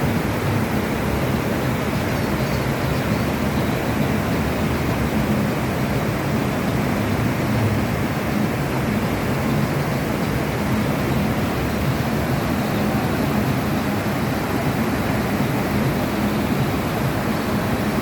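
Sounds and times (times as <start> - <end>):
steady low rushing noise: 0.0 - 18.0.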